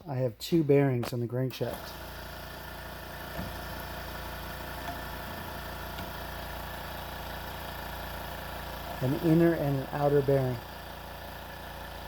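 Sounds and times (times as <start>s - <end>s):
machine hum: 1.7s - 12.0s.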